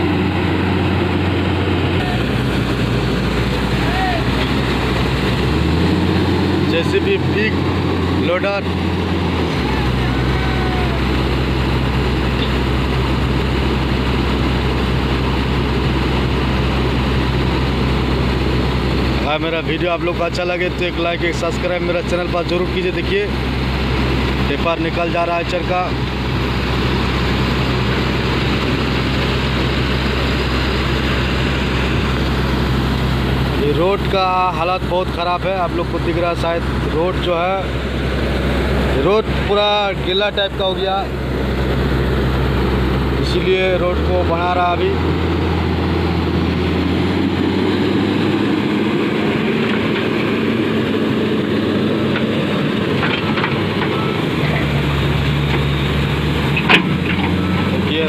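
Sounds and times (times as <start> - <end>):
truck diesel engine passing: 0.0 - 58.0.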